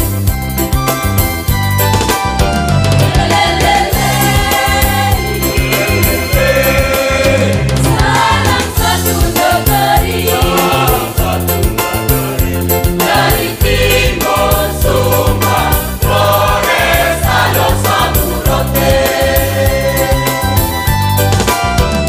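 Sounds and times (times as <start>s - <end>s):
low instrumental accompaniment: 0.0s - 22.0s
choir singing: 3.0s - 20.8s.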